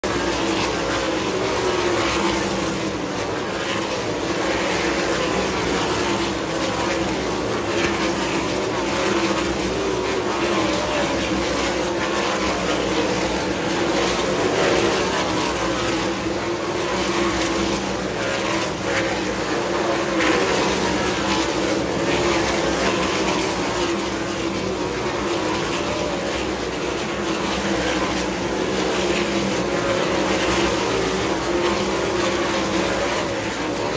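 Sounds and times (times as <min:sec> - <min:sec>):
racing car engines droning: 0:00.0 - 0:33.9.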